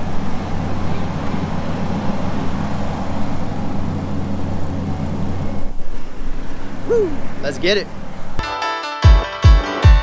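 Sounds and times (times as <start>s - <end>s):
heavy equipment engine running: 0.0s - 8.4s.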